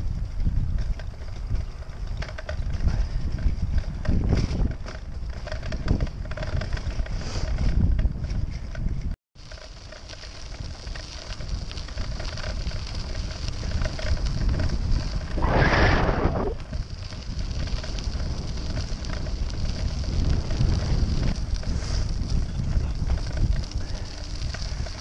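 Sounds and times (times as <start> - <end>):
wind buffeting microphone: 0.0 - 9.2, 10.2 - 25.0
bicycle tyres rolling on path: 0.0 - 25.0.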